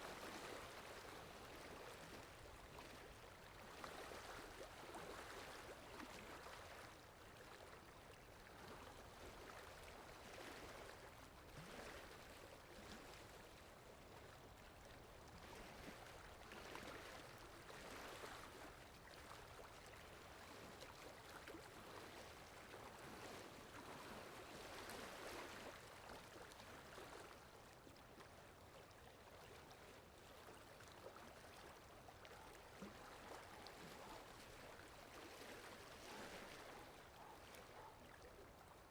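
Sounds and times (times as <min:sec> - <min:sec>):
faint flowing water: 0:00.0 - 0:38.9.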